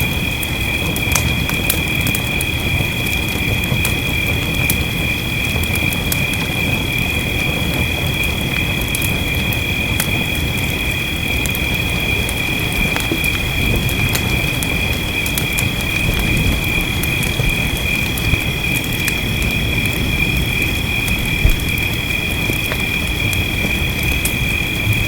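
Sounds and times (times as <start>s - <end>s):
low rumble of rain: 0.0s - 25.0s
wood fire crackling: 0.0s - 25.0s.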